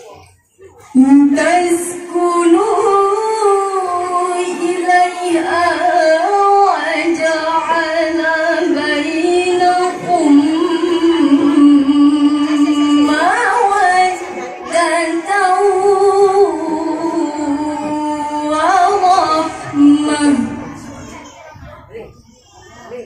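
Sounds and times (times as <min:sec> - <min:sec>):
woman chanting into a microphone: 0:00.9 - 0:21.2.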